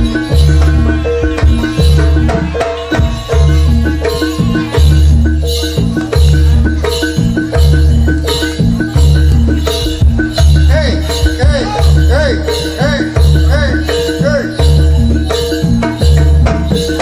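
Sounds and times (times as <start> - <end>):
drums: 0.0 - 17.0
gamelan mallet instruments: 0.0 - 17.0.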